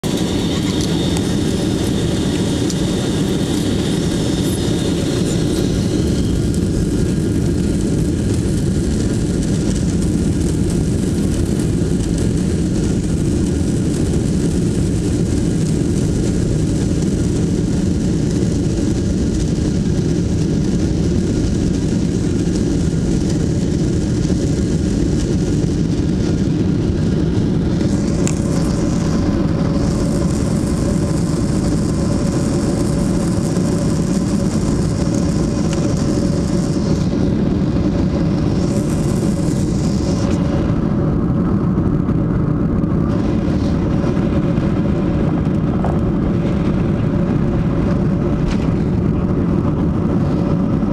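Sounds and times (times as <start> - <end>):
aircraft cabin engine rumble: 0.0 - 50.9
jet engine higher tone: 0.0 - 50.9.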